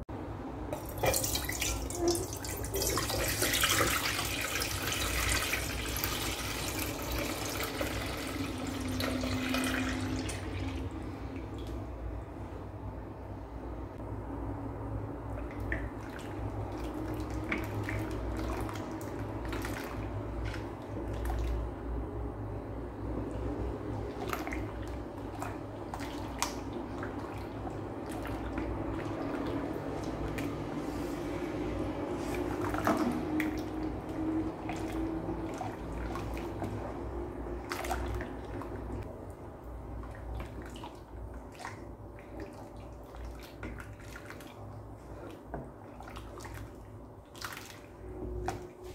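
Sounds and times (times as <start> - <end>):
liquid sloshing while stirred: 0.6 - 12.7, 15.1 - 48.9.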